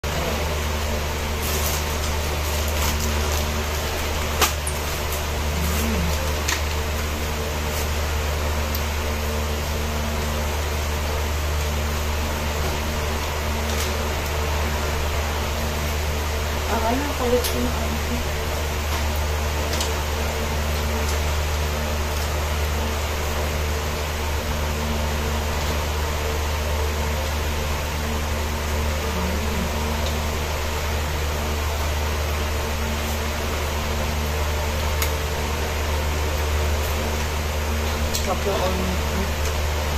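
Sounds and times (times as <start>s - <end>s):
room hum with hiss: 0.0s - 39.9s.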